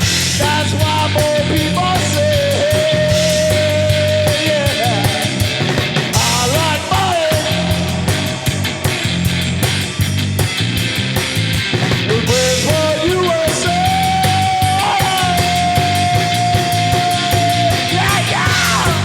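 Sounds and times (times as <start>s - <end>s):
rock band playing loudly: 0.0s - 19.0s.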